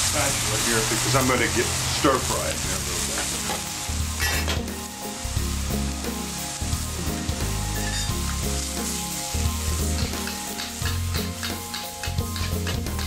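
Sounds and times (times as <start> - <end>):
noodles sizzling in a wok: 0.0 - 13.0.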